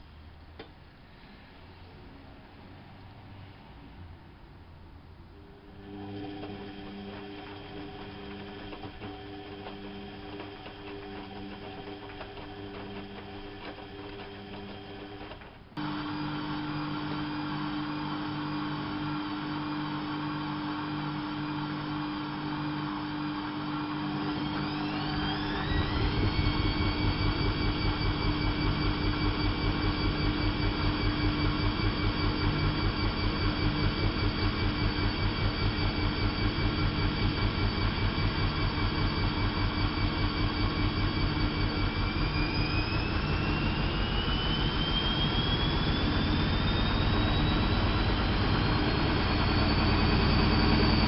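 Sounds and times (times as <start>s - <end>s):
washing machine running: 5.4s - 51.0s.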